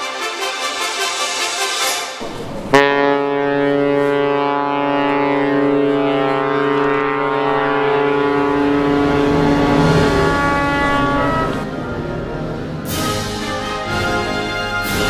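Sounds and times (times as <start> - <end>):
ship horn long blast: 0.0 - 15.0.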